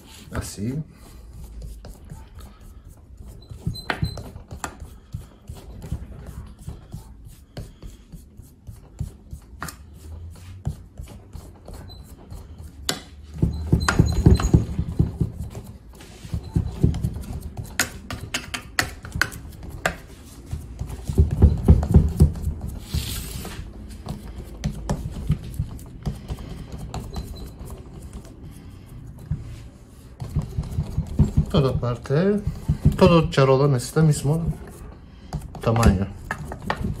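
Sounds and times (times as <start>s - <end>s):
spoon patting and scraping dough: 0.0s - 37.0s.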